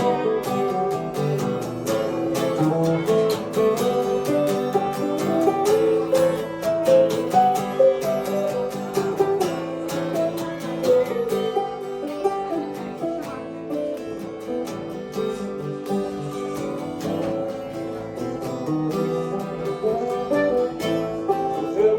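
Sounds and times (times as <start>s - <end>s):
acoustic guitar playing: 0.0s - 21.9s.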